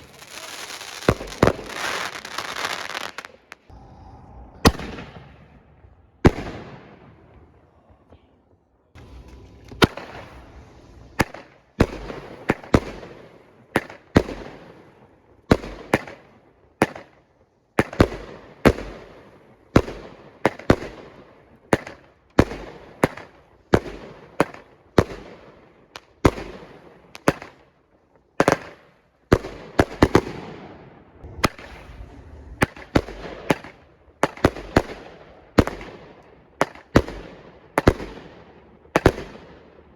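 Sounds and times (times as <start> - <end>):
fireworks bangs: 0.0 - 7.6, 8.9 - 17.2, 17.8 - 39.9.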